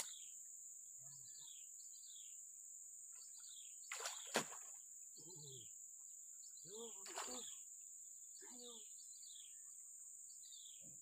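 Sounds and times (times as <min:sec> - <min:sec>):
bird chirping: 0:00.0 - 0:02.4, 0:03.0 - 0:11.0.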